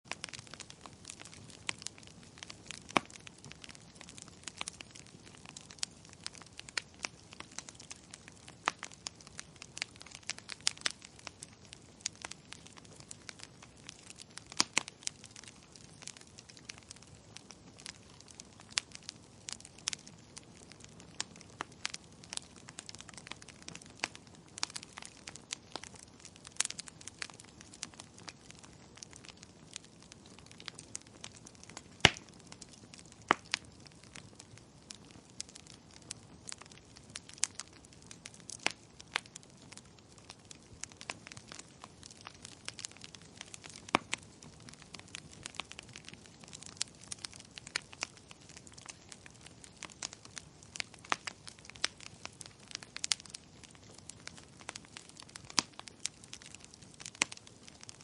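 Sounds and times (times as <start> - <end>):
wood fire crackling: 0.0 - 58.0
low hiss of burning: 0.1 - 58.0.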